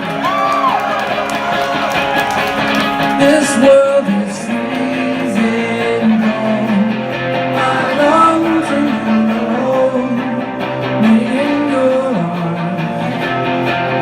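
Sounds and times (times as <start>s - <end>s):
electric guitars: 0.0s - 14.0s
live rock band playing: 0.0s - 14.0s
person singing: 2.4s - 14.0s.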